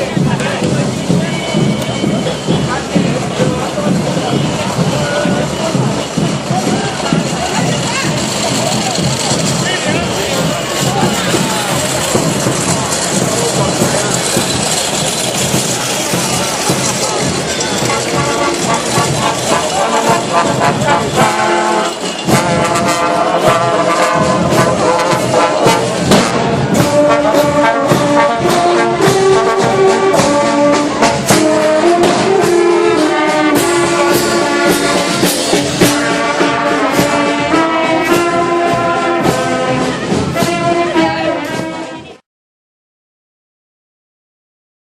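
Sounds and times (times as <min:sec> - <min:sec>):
sharp regular beats: 0:00.0 - 0:41.6
brass band playing: 0:00.0 - 0:42.2.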